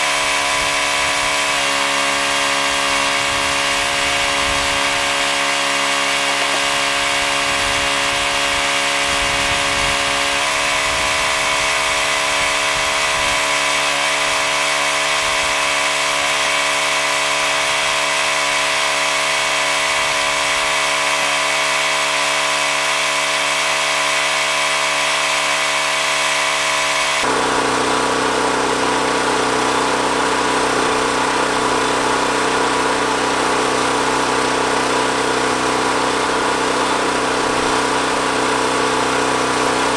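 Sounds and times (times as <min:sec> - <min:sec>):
power tool whirring: 0:00.0 - 0:39.9
small engine running: 0:00.0 - 0:39.9.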